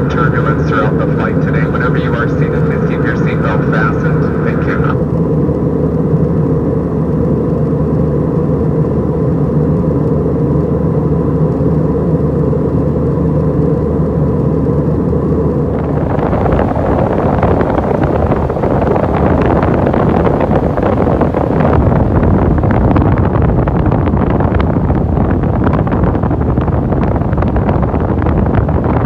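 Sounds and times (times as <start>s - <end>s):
airplane cabin engine drone: 0.0s - 29.0s
faint steady whine: 0.0s - 29.0s.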